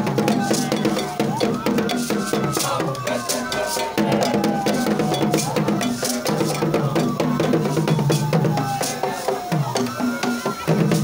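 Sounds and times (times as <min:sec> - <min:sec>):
barrel drums and percussion: 0:00.0 - 0:11.0.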